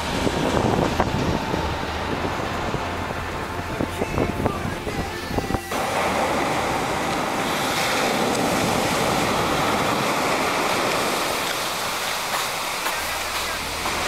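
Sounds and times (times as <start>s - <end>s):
low rumble: 0.0s - 12.2s
ocean waves breaking on beach: 0.0s - 14.0s.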